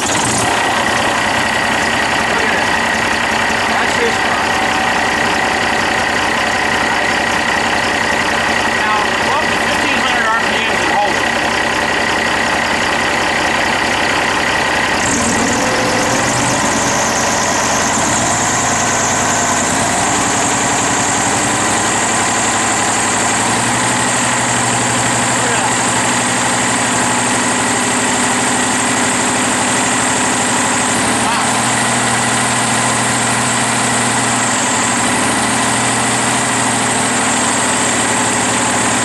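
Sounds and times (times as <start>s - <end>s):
diesel truck engine idling: 0.0s - 39.0s.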